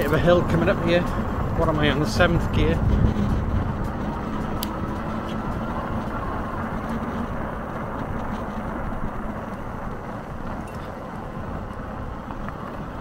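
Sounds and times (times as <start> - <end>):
bike tyres rolling: 0.0 - 13.0.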